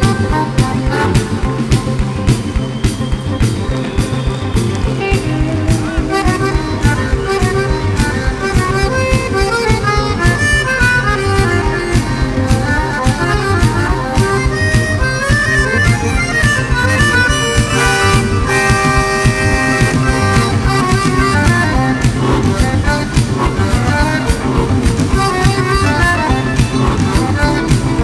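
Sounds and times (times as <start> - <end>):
accordion: 0.0 - 28.0
bass guitar: 0.0 - 28.0
drums: 0.0 - 28.0
electric guitar: 0.0 - 28.0.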